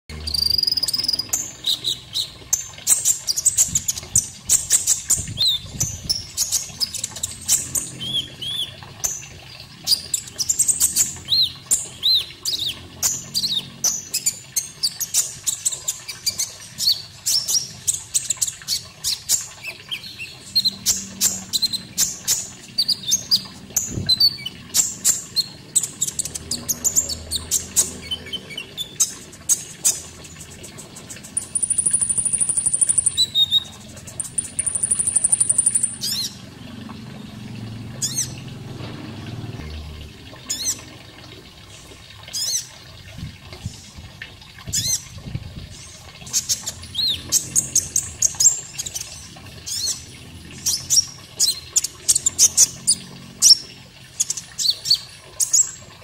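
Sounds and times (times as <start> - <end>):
running water: 0.1 - 56.0.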